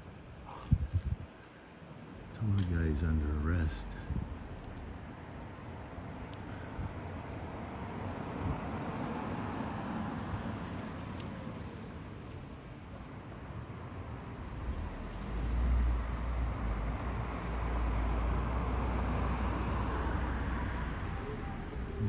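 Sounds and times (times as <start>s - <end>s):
deep traffic rumble: 0.0s - 22.0s.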